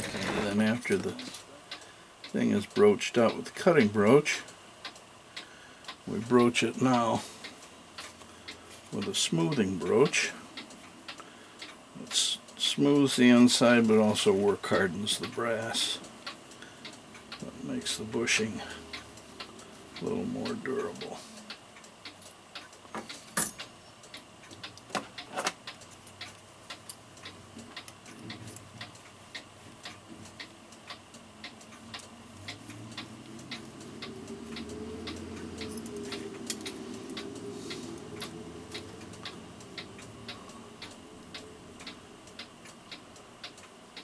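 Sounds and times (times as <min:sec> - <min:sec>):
mechanical clock ticking: 0:00.0 - 0:44.0.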